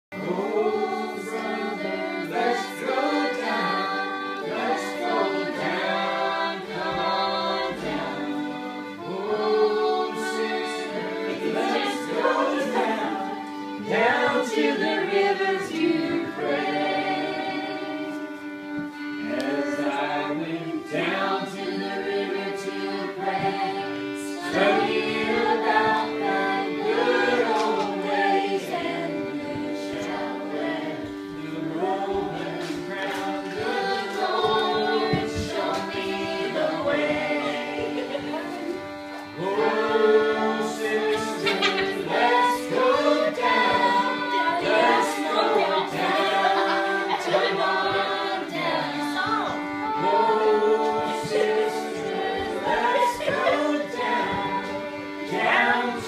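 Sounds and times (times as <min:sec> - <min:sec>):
fiddle: 0:00.1 - 0:56.0
men and women singing together: 0:00.1 - 0:56.0.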